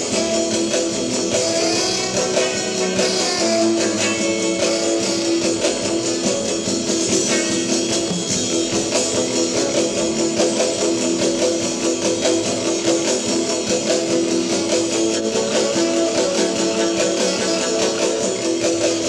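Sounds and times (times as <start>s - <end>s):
drum kit steady beat: 0.0s - 19.0s
electric guitar strumming: 0.0s - 19.0s.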